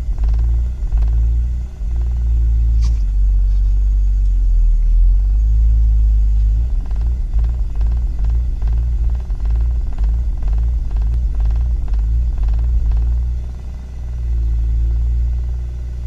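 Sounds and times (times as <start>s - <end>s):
engine idling roughly: 0.0s - 16.0s.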